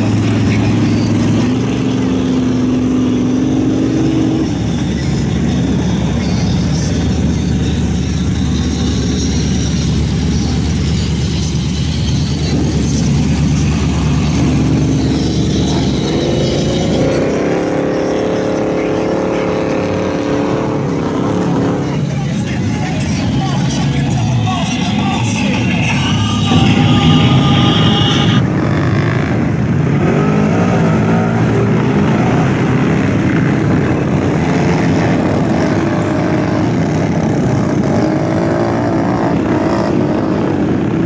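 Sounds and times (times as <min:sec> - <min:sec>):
engine running under load: 0:00.0 - 0:41.0
tires churning through mud: 0:00.0 - 0:41.0.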